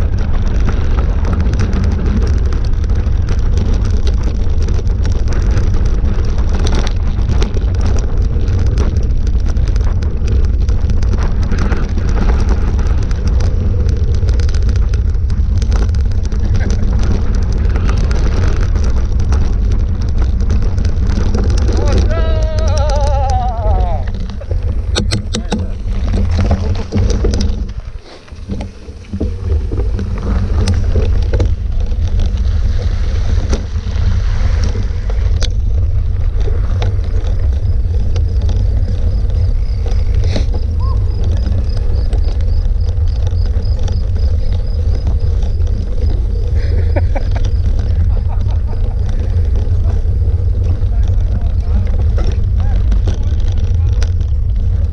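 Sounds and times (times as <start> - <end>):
bike knocks and rattles: 0.0 - 54.9
wind buffeting microphone: 0.0 - 54.9.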